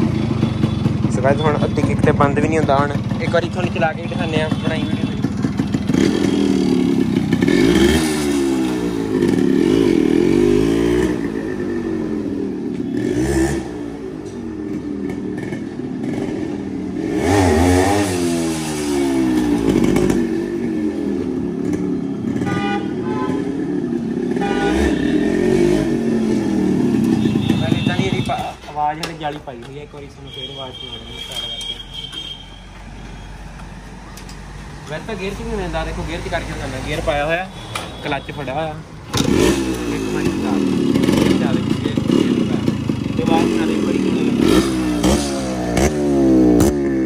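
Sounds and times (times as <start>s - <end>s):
motorcycle engine revving: 0.0s - 29.4s, 34.6s - 47.0s.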